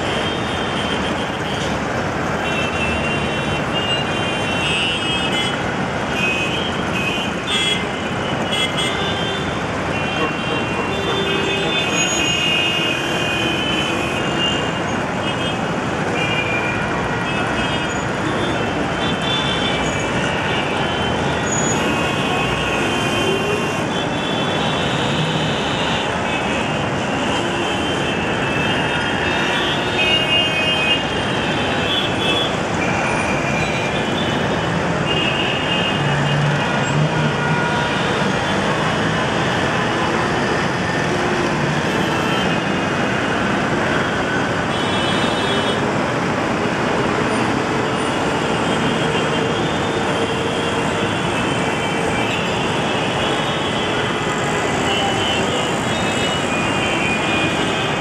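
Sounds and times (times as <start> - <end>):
traffic din: 0.0 - 58.0.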